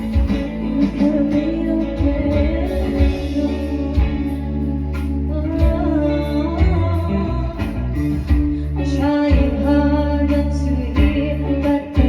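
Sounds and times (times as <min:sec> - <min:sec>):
bass guitar: 0:00.0 - 0:12.0
electric guitar: 0:00.0 - 0:12.0
person singing: 0:00.0 - 0:12.0.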